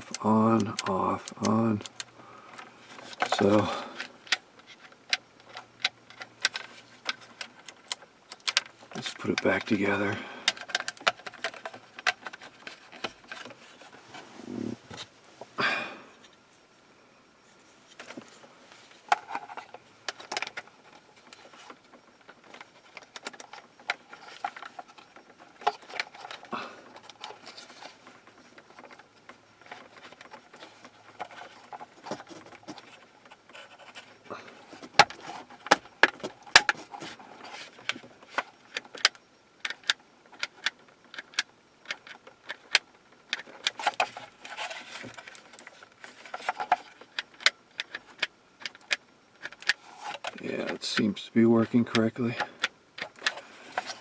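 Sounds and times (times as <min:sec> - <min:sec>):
plastic parts clicking and tapping: 0:00.0 - 0:13.9, 0:19.1 - 0:54.0.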